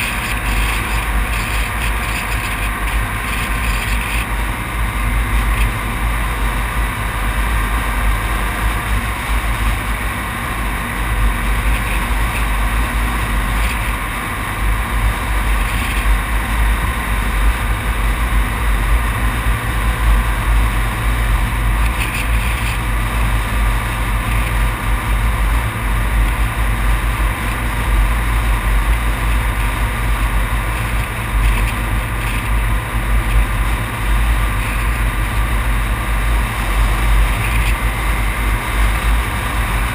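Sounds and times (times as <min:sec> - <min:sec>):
vehicle road noise: 0:00.0 - 0:39.9.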